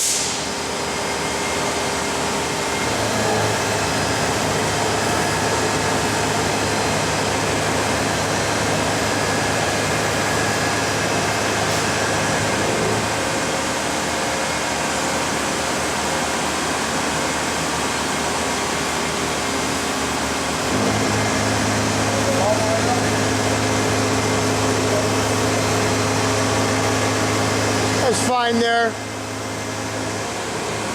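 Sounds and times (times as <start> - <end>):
machine hum and whir: 0.0 - 30.9.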